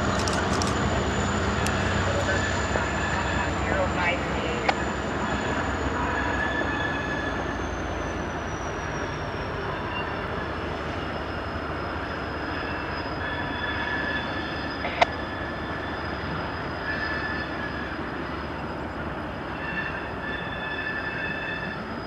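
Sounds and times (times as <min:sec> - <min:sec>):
train rumbling: 0:00.0 - 0:22.0
train wheels squealing: 0:00.0 - 0:22.0.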